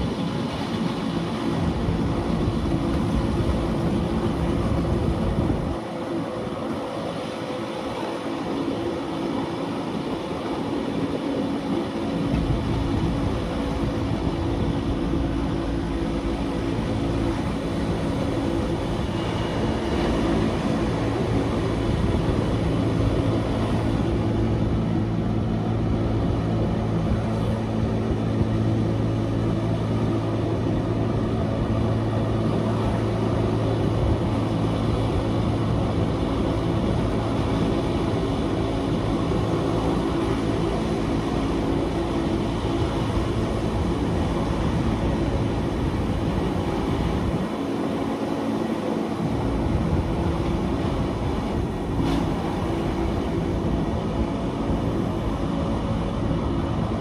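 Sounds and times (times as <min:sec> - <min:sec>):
low motor hum: 0:00.0 - 0:57.0
train wheels rumbling: 0:00.0 - 0:57.0.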